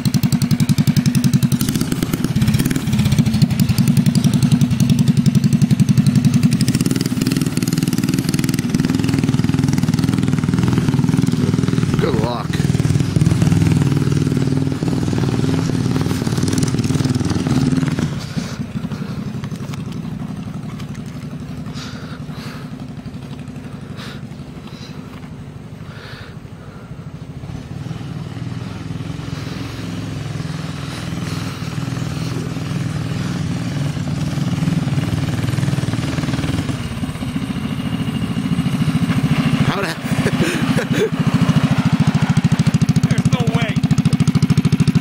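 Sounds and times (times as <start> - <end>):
small bike engine running: 0.0 - 45.0.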